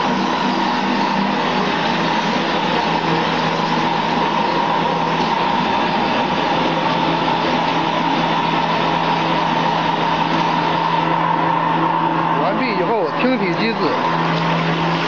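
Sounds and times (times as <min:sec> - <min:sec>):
air compressor whine: 0:00.0 - 0:15.0
spraying machine drone: 0:00.0 - 0:15.0.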